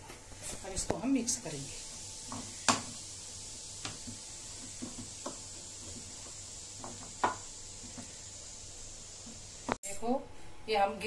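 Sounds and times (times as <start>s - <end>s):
batter mixing taps and scrapes: 0.0s - 9.8s.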